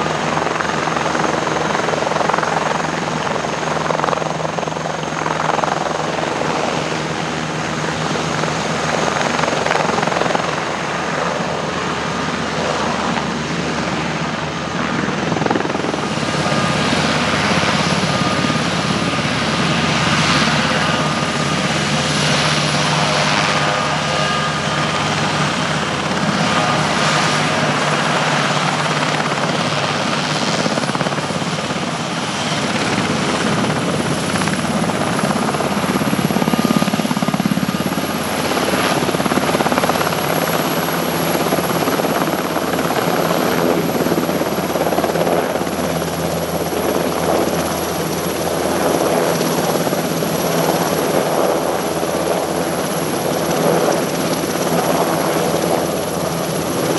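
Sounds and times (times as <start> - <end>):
helicopter rotor and engine: 0.0 - 56.9.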